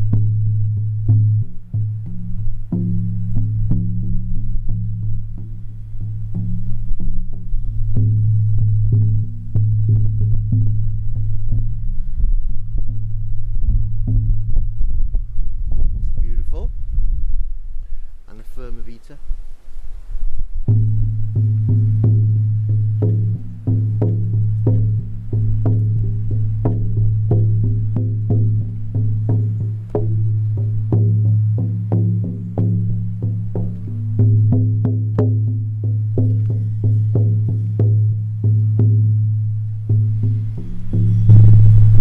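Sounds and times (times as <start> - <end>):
frame drum struck with beater: 0.0 - 17.6, 20.3 - 42.0.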